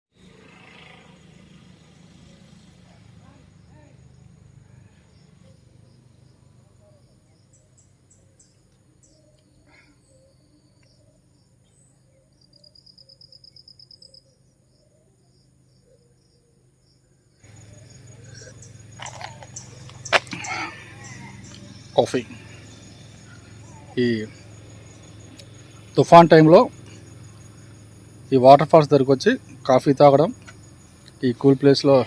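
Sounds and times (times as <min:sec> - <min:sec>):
cricket-like insect trill: 0:00.2 - 0:32.0.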